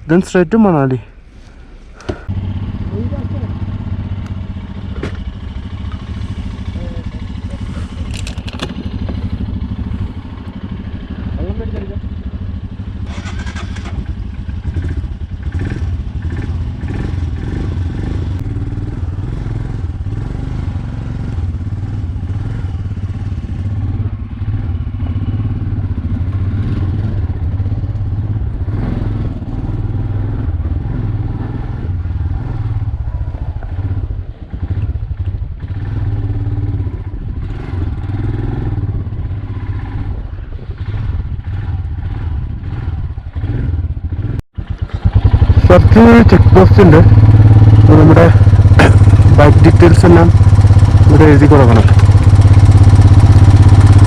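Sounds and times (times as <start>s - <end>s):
motorcycle engine running: 2.0s - 54.0s.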